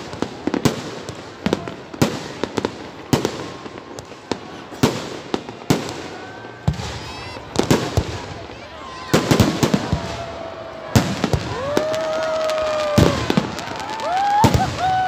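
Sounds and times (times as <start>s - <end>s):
fireworks bursting with sharp bangs: 0.0s - 15.0s
fireworks crackling: 0.0s - 15.0s.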